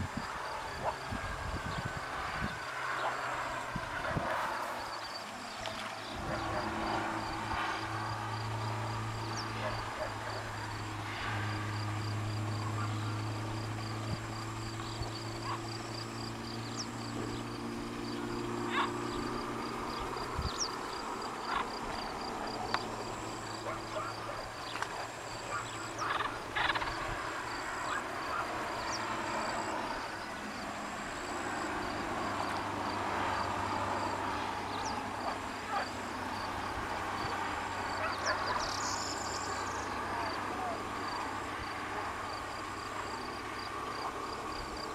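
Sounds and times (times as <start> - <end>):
low steady drone: 0.0 - 44.9.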